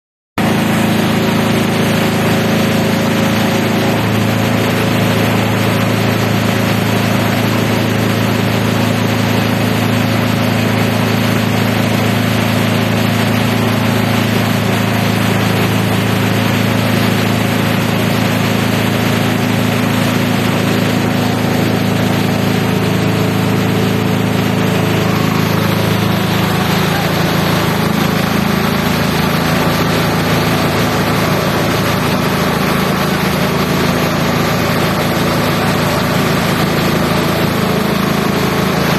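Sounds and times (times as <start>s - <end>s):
shredder machine droning: 0.4s - 38.9s.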